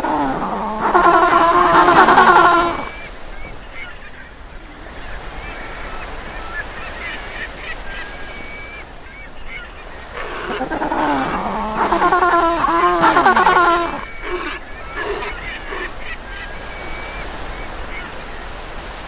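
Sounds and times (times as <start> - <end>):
penguins calling: 0.0 - 8.6, 9.2 - 18.3
surf hissing: 0.0 - 19.0.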